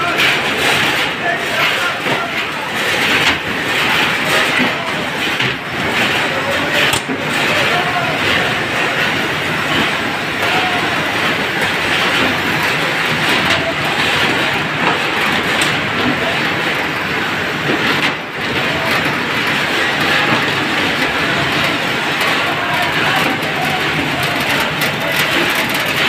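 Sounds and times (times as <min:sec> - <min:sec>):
conveyor machine running: 0:00.0 - 0:26.0.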